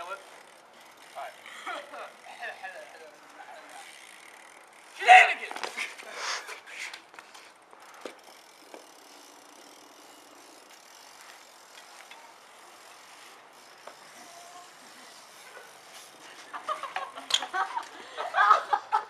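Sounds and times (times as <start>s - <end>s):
bike tyres hissing: 0.0s - 18.5s.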